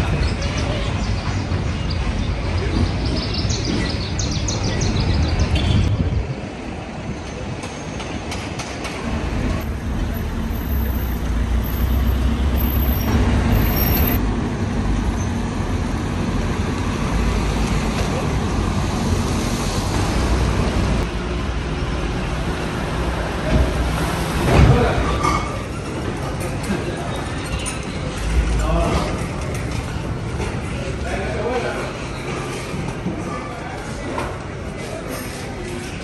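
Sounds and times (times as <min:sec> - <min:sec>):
large vehicle engine rumbling: 0:00.0 - 0:36.0
street traffic: 0:00.0 - 0:36.0.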